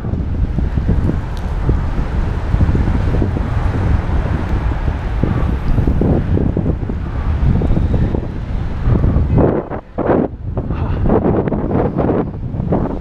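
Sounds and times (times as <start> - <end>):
road and traffic noise: 0.0 - 13.0
wind buffeting microphone: 0.0 - 13.0.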